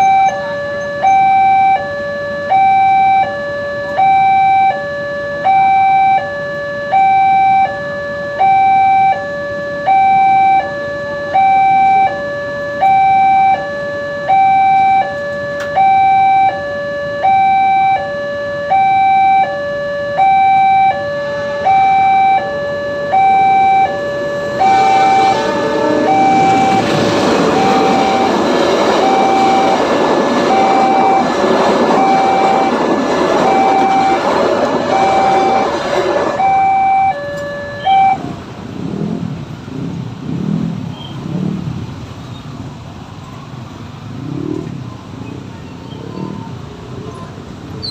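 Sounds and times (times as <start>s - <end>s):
two-tone crossing alarm: 0.0s - 38.5s
passing train rolling: 9.1s - 47.9s.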